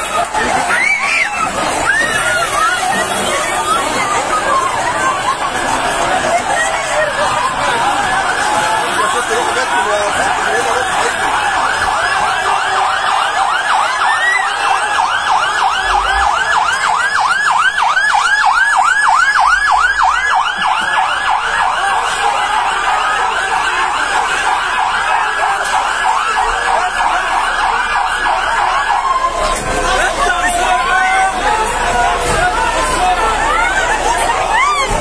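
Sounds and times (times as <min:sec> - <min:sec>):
fire engine siren yelping: 0:00.0 - 0:35.0.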